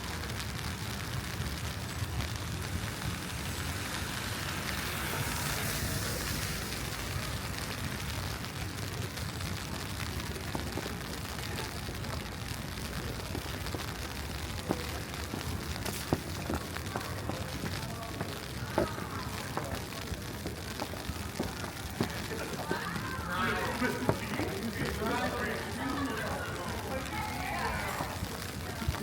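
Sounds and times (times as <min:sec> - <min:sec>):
low street rumble: 0:00.0 - 0:29.0.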